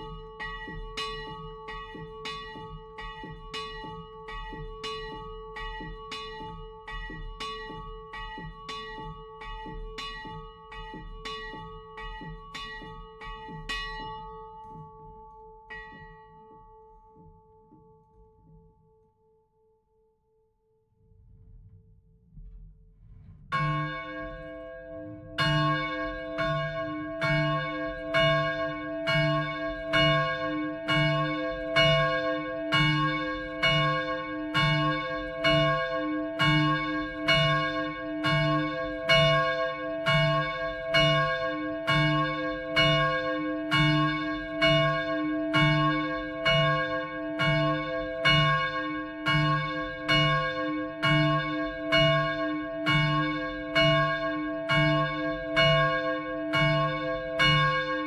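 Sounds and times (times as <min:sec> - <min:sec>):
church bell ringing: 0:00.0 - 0:17.3, 0:23.6 - 0:58.0.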